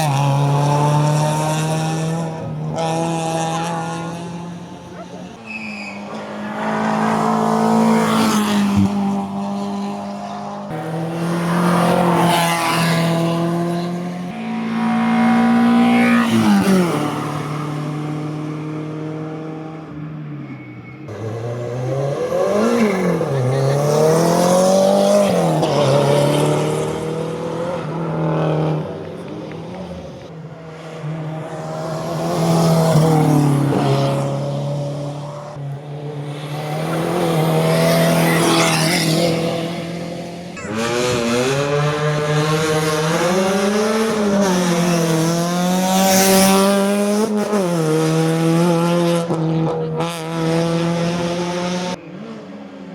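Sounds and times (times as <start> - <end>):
race car engines at full throttle: 0.0 - 52.9.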